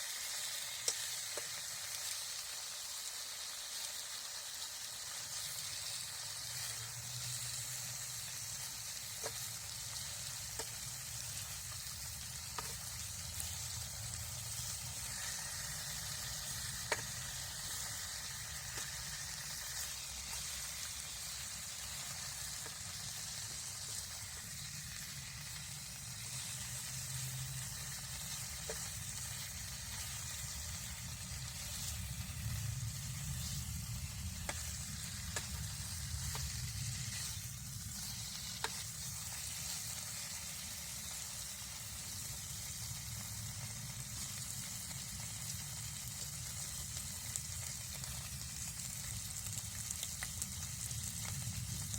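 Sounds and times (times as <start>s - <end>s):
campfire hissing: 0.0s - 51.9s.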